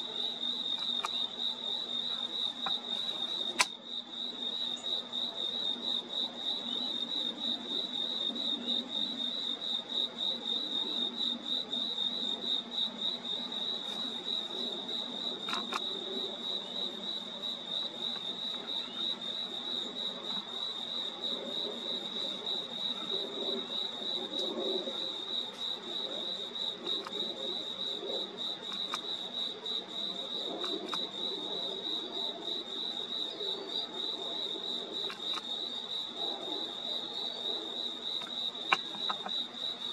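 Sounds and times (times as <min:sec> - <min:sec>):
crickets trilling: 0:00.0 - 0:39.9
lower insect chorus: 0:00.0 - 0:39.9.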